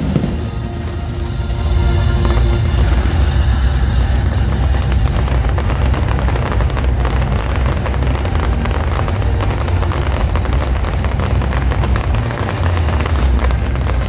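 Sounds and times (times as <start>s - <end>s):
fireworks crackling: 0.0s - 14.0s
low rumble of fireworks bursts: 0.0s - 14.0s.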